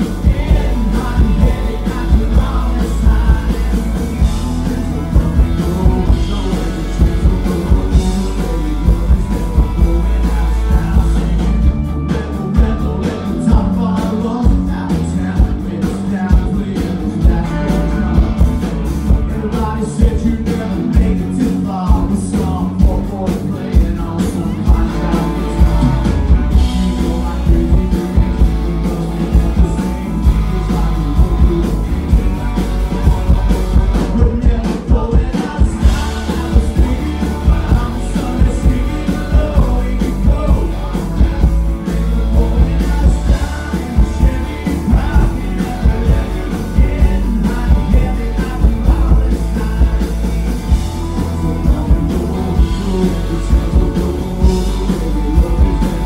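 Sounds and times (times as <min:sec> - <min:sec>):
acoustic guitar: 0:00.0 - 0:56.0
man singing: 0:00.0 - 0:56.0
steady drum beat: 0:00.0 - 0:56.0.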